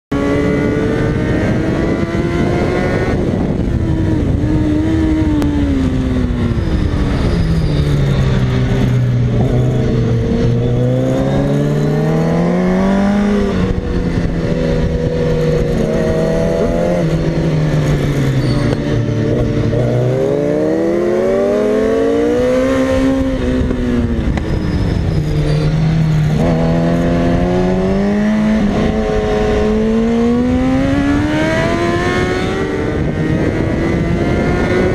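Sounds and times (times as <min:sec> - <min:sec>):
motorcycle engine revving: 0:00.1 - 0:34.9
wind rushing over microphone: 0:00.1 - 0:34.9.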